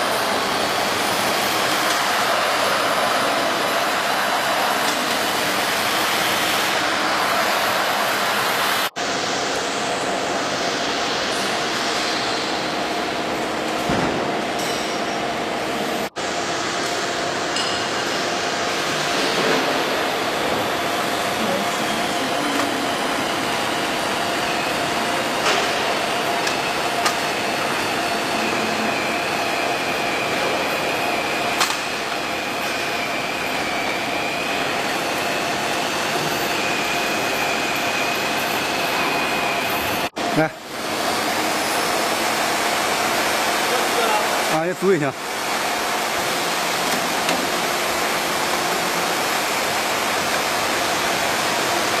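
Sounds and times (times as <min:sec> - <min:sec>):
high whine: 0:00.0 - 0:52.0
machinery humming: 0:00.0 - 0:52.0.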